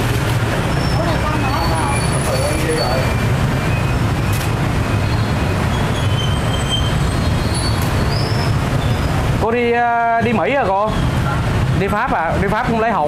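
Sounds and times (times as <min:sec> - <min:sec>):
busy street traffic rumble: 0:00.0 - 0:13.0.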